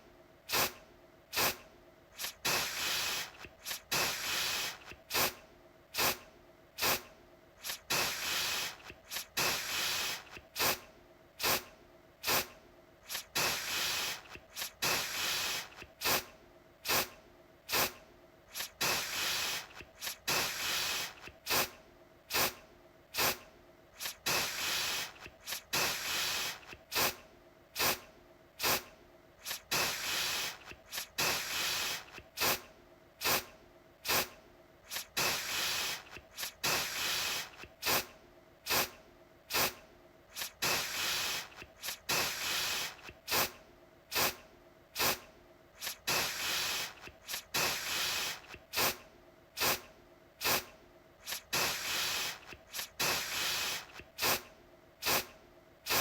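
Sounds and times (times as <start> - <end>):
aerosol can spraying: 0.5 - 1.6, 2.2 - 5.4, 6.0 - 6.2, 6.8 - 10.8, 11.4 - 22.6, 23.2 - 23.4, 24.0 - 27.2, 27.8 - 28.0, 28.6 - 38.1, 38.7 - 44.4, 45.0 - 45.2, 45.8 - 49.0, 49.6 - 55.3.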